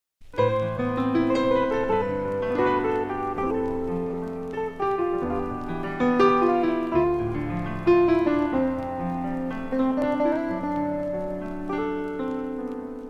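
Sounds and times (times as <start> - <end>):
piano melody over chords: 0.2 - 13.0.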